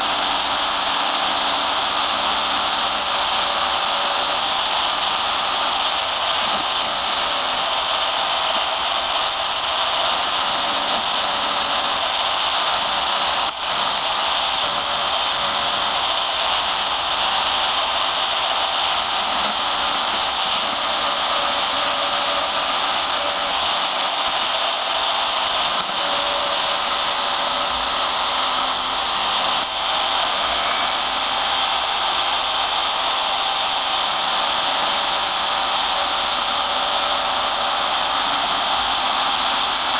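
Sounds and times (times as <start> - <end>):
bandsaw cutting steel: 0.0 - 39.9.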